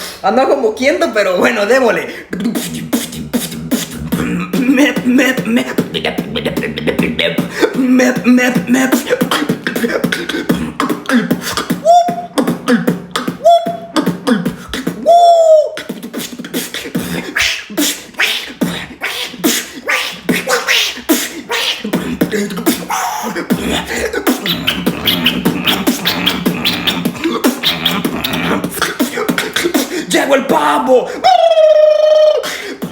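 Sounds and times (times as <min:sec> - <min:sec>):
beatboxing drum beats: 0:01.4 - 0:32.9.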